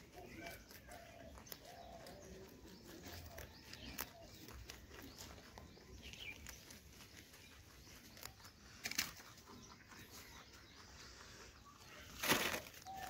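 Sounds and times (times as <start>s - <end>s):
leaves rustling: 0.0s - 9.4s, 11.8s - 13.0s
rabbits chewing crunchily: 0.0s - 13.0s.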